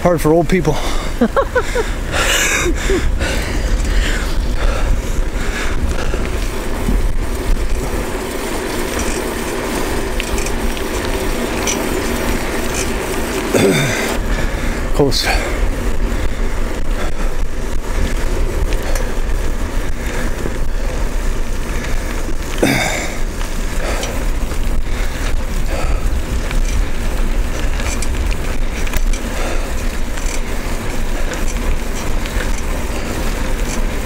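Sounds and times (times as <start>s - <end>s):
tyre and road noise: 0.0s - 34.0s
wind buffeting microphone: 0.6s - 34.0s.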